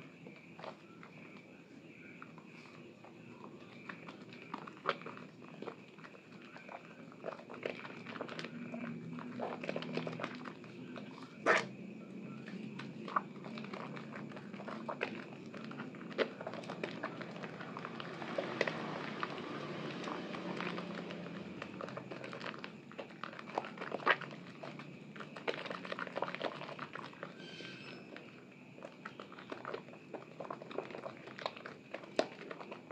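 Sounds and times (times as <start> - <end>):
hand squelching wet soap lather: 2.2 - 32.9.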